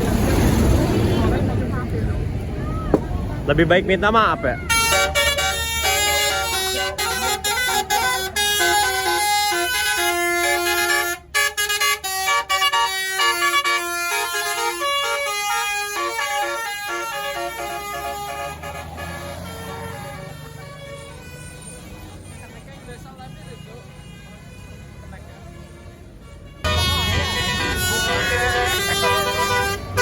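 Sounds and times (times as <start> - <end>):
bus engine drone: 0.0 - 24.0, 24.8 - 30.0
multi-tone bus horn melody: 4.6 - 30.0.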